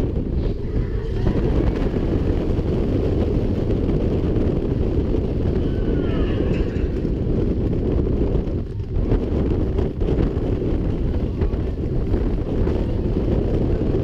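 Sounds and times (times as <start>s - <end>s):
roller coaster rumbling on track: 0.0s - 14.0s
wind over microphone: 0.0s - 14.0s.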